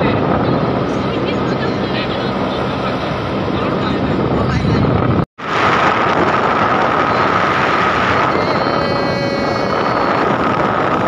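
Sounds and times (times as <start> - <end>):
auto-rickshaw engine drone: 0.0 - 11.0
wind rush on microphone: 0.0 - 11.0.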